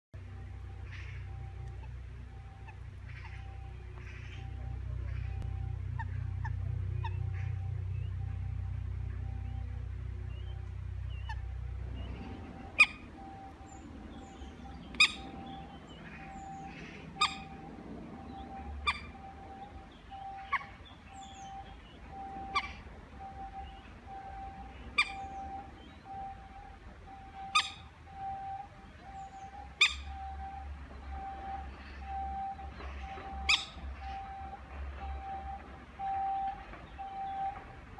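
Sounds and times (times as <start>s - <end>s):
faint low rumble: 0.2s - 37.9s.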